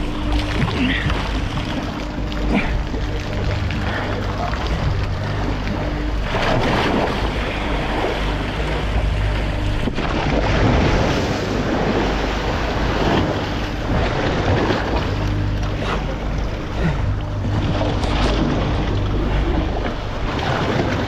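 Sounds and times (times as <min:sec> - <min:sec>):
low machinery hum: 0:00.0 - 0:21.0
sea water splashing: 0:00.0 - 0:21.0.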